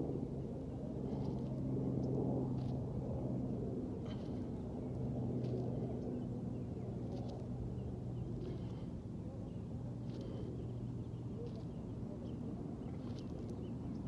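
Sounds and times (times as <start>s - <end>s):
low mechanical hum and rumble: 0.0s - 14.0s.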